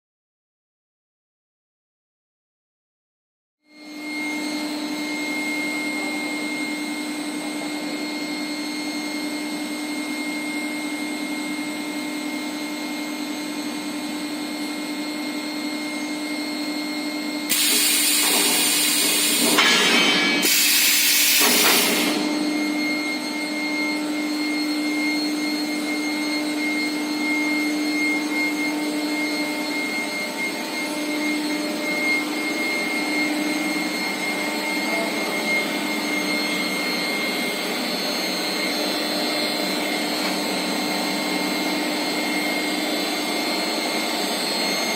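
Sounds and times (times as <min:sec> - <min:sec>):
furnace electrical hum and whine: 0:03.9 - 0:44.9.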